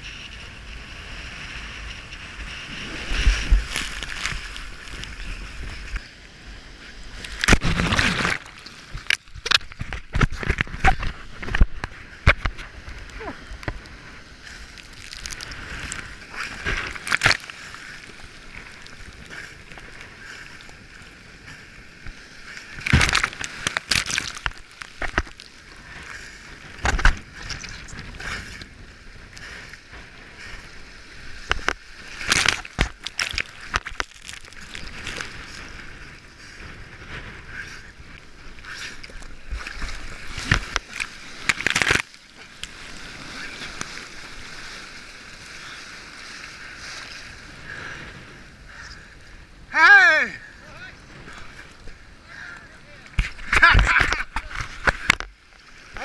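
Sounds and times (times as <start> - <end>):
rough sea sloshing: 0.0 - 56.0
waves splashing: 0.0 - 56.0.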